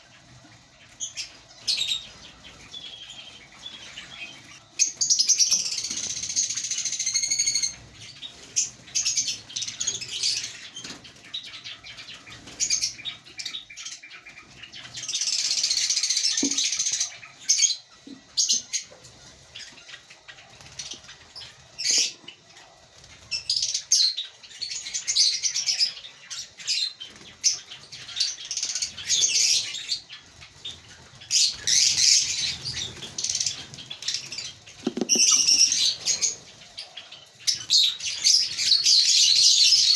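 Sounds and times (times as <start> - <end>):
lovebirds chirping and chattering: 0.0 - 39.9.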